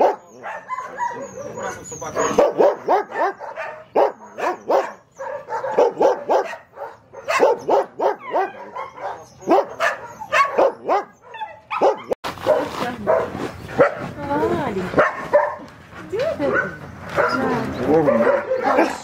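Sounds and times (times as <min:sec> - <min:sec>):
dogs barking: 0:00.0 - 0:14.2, 0:14.9 - 0:19.0.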